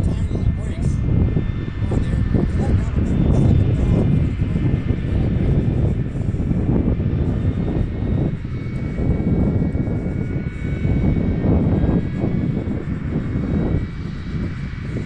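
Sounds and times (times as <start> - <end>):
jet engine deep rumble: 0.0 - 15.0
jet turbine whine: 0.0 - 15.0.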